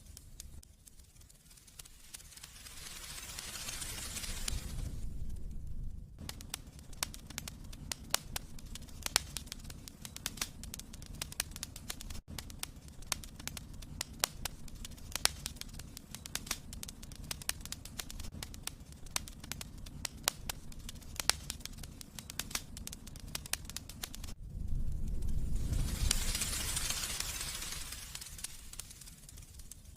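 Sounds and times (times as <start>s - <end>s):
low rumble of flames: 0.0s - 29.9s
wood fire crackling and popping: 0.0s - 29.9s.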